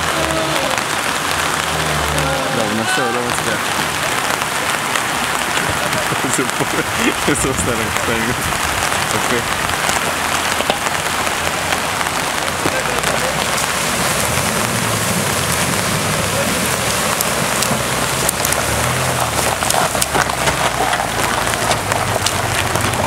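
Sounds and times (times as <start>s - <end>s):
car engine running low: 0.0s - 23.0s
gravel under tyres: 0.0s - 23.0s
water splashing: 0.0s - 23.0s.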